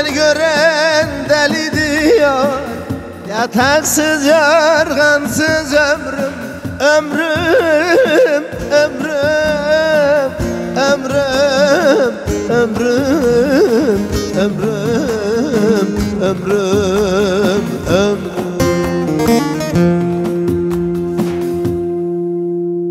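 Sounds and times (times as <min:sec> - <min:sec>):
man singing folk melody: 0:00.0 - 0:20.4
guitar: 0:00.0 - 0:22.9.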